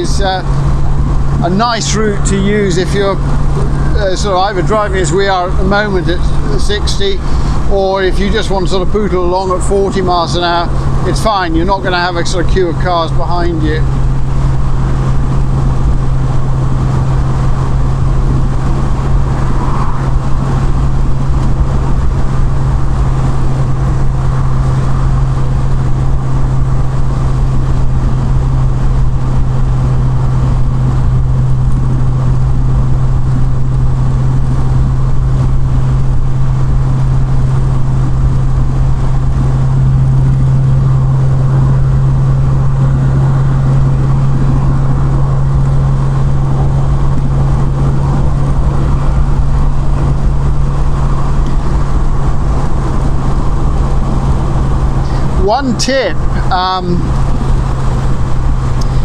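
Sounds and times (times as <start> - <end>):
car engine and exhaust drone: 0.0 - 59.0
road and wind noise: 0.0 - 59.0.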